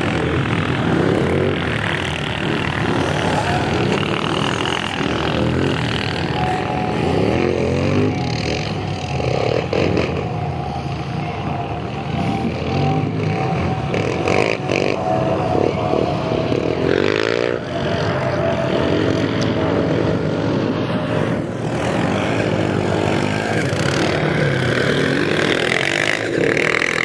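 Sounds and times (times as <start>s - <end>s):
racing quad engines revving: 0.0s - 27.0s.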